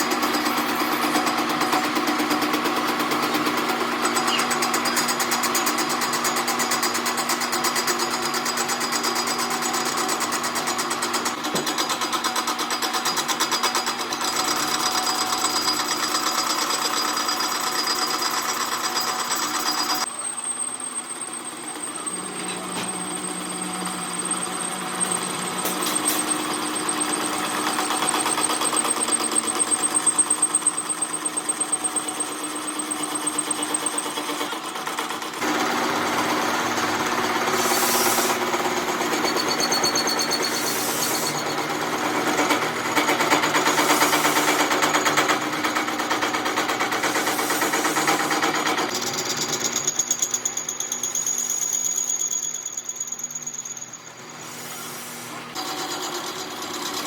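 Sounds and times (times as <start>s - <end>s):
workshop machinery pulsing: 0.0s - 57.0s.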